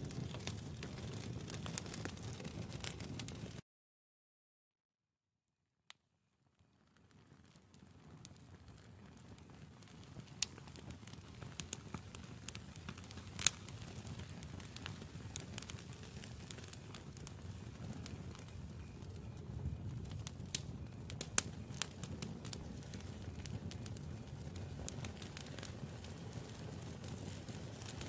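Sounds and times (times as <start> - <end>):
campfire flames rumbling: 0.0 - 3.6, 6.6 - 28.0
fire crackling and popping: 0.0 - 3.6, 6.5 - 28.0.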